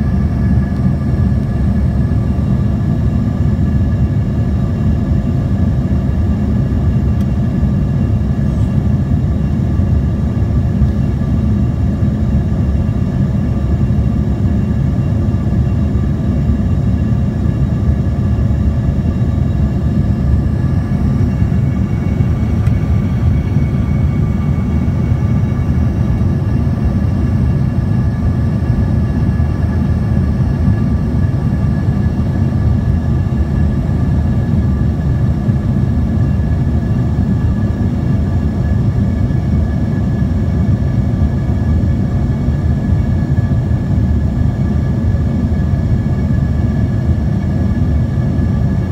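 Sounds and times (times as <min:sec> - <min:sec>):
jet engine and air rumble: 0:00.0 - 0:48.9
faint high whine: 0:06.9 - 0:47.0.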